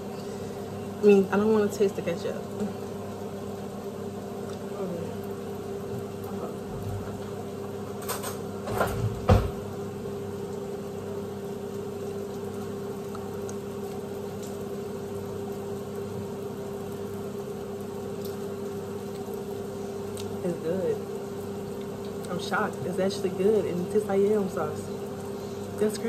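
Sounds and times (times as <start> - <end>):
low electrical hum of appliance: 0.0 - 26.0.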